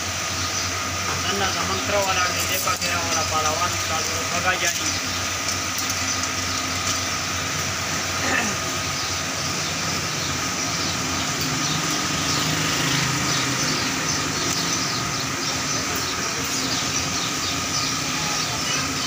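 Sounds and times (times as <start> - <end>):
constant hum: 0.0 - 19.0
mechanical rumble and hiss: 0.0 - 19.0.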